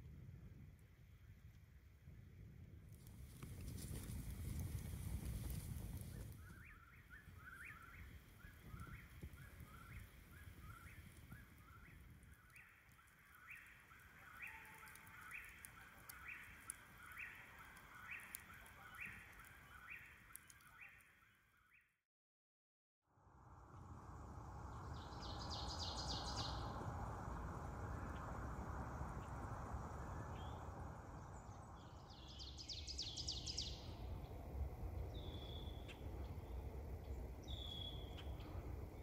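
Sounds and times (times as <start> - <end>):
campfire crackling: 0.1 - 21.1, 23.8 - 39.0.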